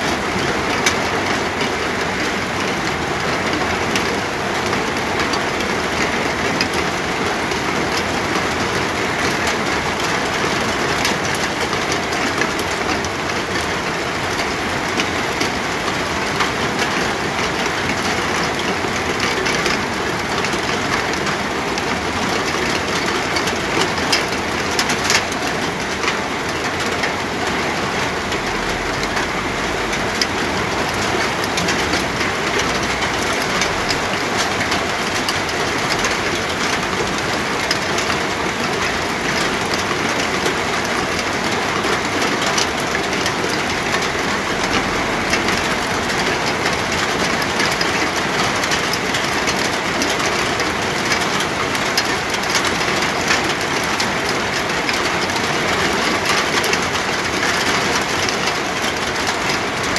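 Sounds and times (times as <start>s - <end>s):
steady rain: 0.0s - 59.9s
raindrops ticking: 0.1s - 59.9s.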